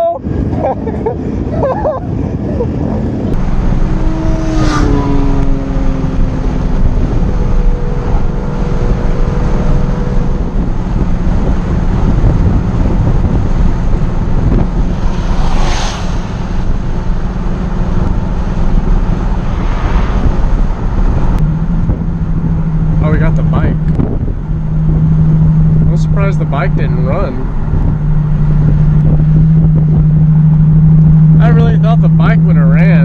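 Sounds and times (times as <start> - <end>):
car engine at highway speed: 0.0 - 33.0
road and wind noise: 0.0 - 33.0.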